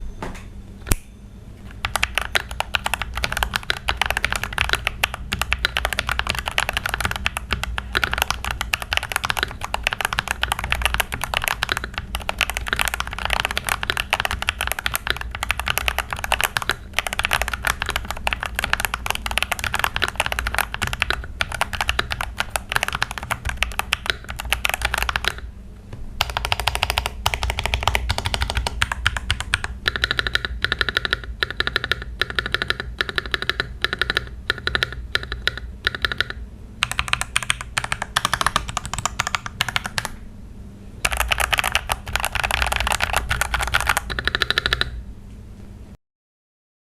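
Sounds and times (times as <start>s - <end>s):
steady low hum: 0.0s - 46.0s
mechanical keyboard typing: 1.7s - 25.5s, 26.2s - 40.2s, 41.0s - 45.0s.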